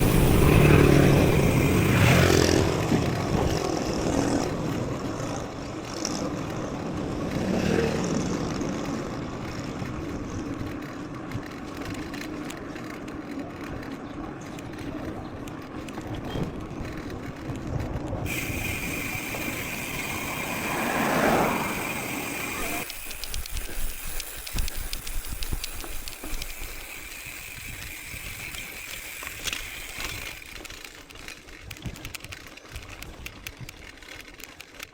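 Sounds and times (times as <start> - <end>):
mountain bike rolling with rattles: 0.0 - 34.9.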